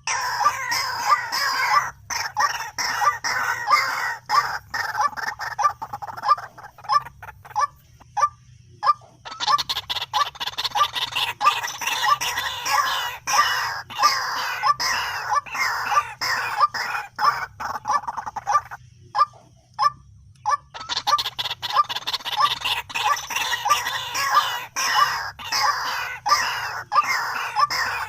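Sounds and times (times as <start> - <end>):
bird calling harsh notes: 0.0 - 28.0.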